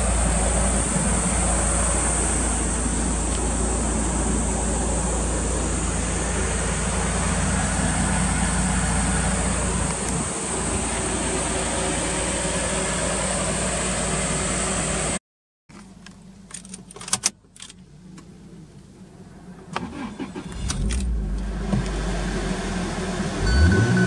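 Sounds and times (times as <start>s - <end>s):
car engine starting and idling: 0.0s - 24.0s
outdoor noise: 0.0s - 24.0s.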